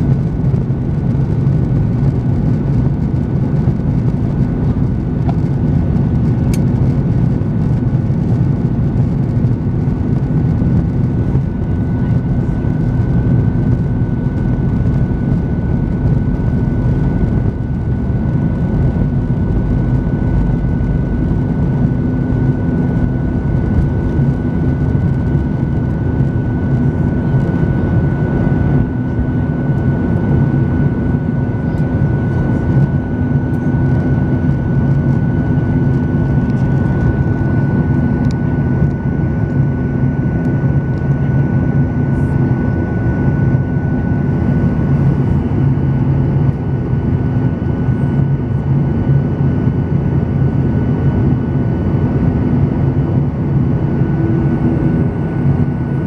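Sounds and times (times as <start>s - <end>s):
jet engine rumble and whine: 0.0s - 56.0s.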